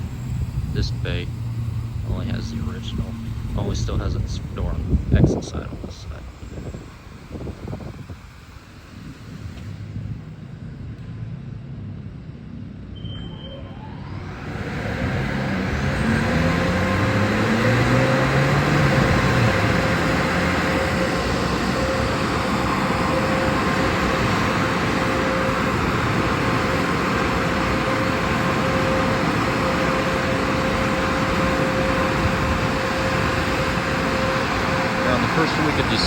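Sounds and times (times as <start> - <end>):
car wash machinery rushing: 0.0 - 11.4, 13.0 - 36.0
constant machine hum: 0.0 - 36.0
vehicle engine: 0.0 - 36.0.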